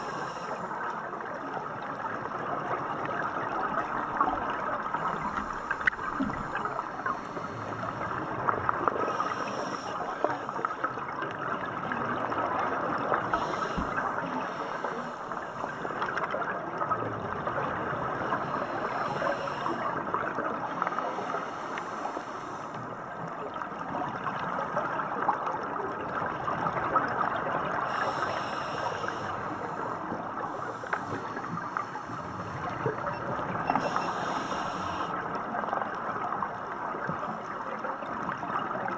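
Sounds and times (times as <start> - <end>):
hissing scuba exhaust bubbles: 0.0 - 25.4, 26.0 - 36.7
dense underwater reef crackle: 0.0 - 38.9.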